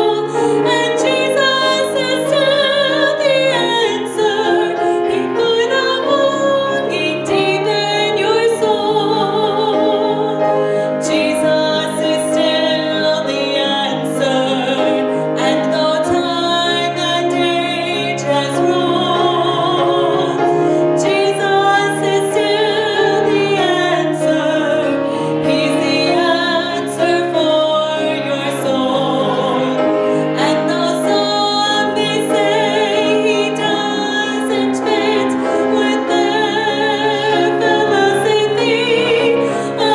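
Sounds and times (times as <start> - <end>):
piano: 0.0 - 39.9
woman singing with vibrato: 0.0 - 39.9.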